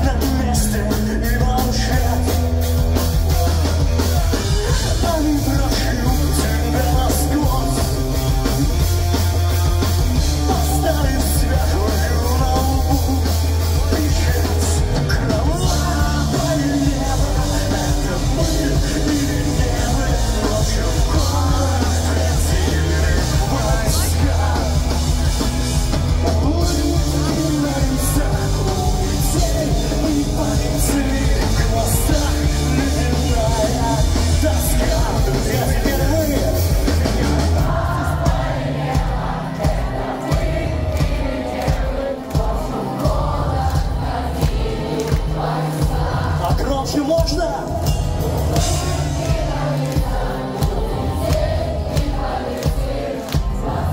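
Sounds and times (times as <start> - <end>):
live pop-punk band playing: 0.0 - 53.9.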